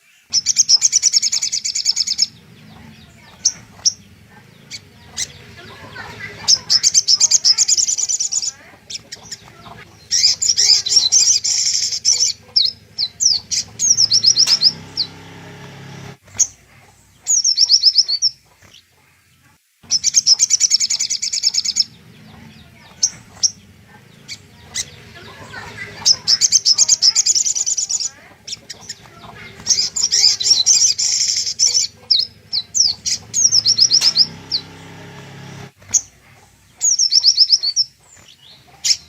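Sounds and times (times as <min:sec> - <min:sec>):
bird sharp chirps: 0:00.0 - 0:18.8, 0:19.8 - 0:39.0
bird buzzy trills: 0:00.0 - 0:39.0.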